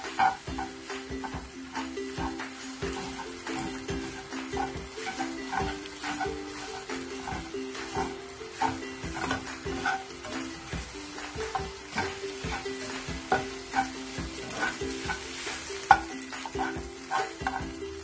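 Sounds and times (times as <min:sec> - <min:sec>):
egg frying: 0:00.0 - 0:18.0
spatula scraping a frying pan: 0:00.0 - 0:18.0.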